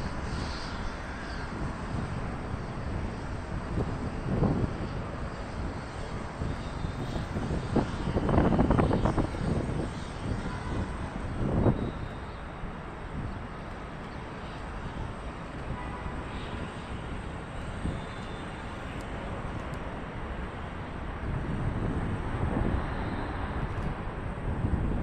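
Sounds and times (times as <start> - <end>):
distant jet noise: 0.0 - 25.0
wind on microphone: 0.0 - 25.0.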